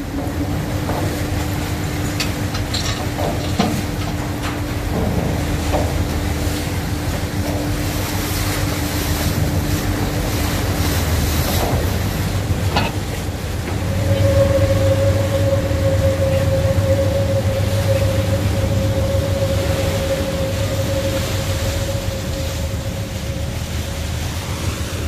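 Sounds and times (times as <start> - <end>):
diesel boat engines running: 0.0 - 25.0
water rushing between hulls: 0.0 - 25.0.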